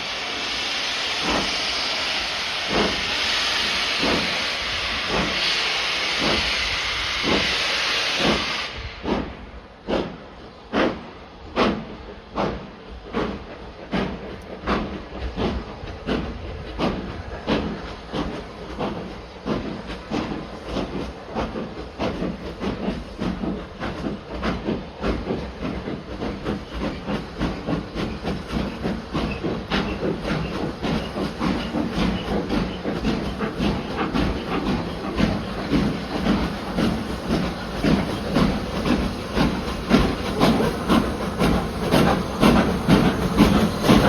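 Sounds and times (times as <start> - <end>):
steam hissing: 0.0 - 44.0
steam locomotive exhaust beats: 0.0 - 44.0.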